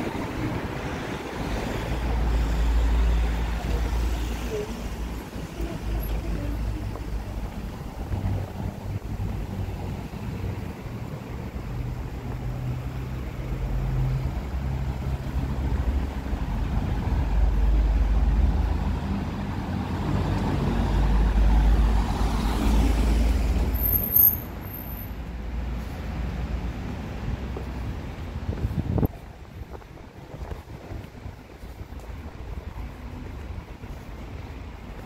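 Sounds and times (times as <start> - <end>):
engine rumbling: 0.0 - 35.0.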